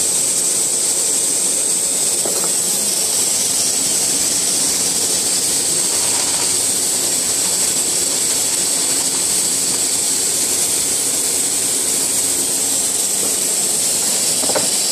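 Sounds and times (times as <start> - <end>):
machine hiss: 0.0 - 14.9.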